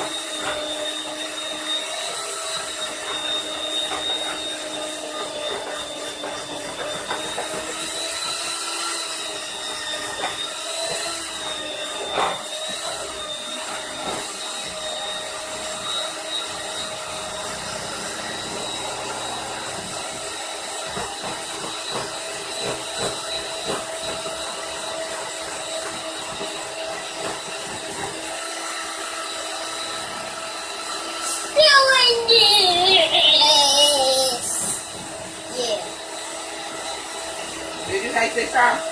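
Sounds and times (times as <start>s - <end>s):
small electric motor whine: 0.0s - 38.9s.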